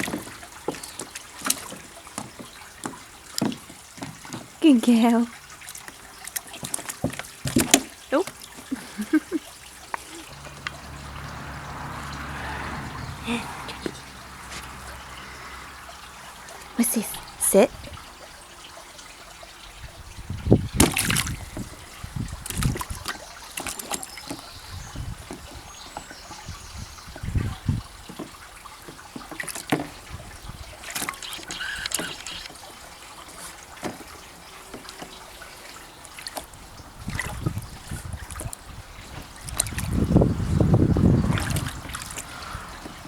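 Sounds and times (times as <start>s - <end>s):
water splashing and trickling: 0.0s - 43.0s.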